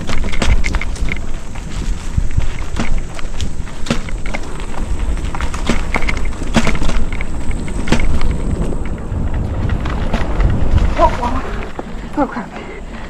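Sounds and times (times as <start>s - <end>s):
bike rattling: 0.0s - 13.0s
wind buffeting microphone: 0.0s - 13.0s.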